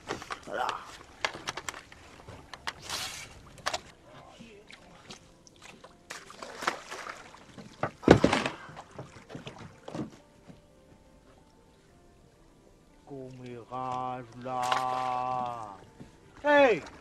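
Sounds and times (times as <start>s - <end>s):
water sloshing around boat: 0.0s - 17.0s.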